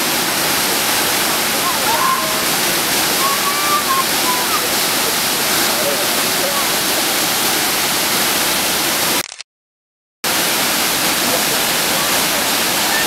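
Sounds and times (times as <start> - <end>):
waterfall rushing: 0.0 - 9.2, 10.3 - 13.0.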